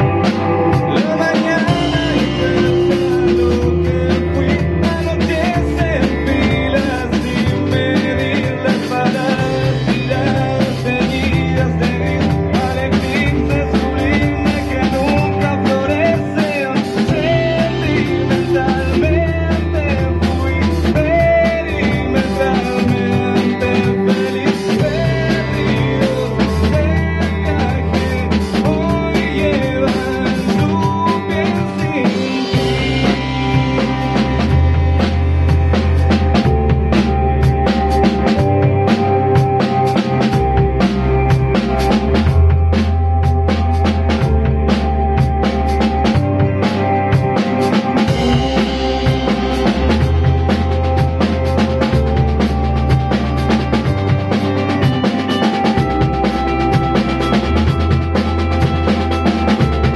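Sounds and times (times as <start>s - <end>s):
man singing: 0.0s - 34.8s, 46.1s - 59.9s
rock band playing: 0.0s - 59.9s.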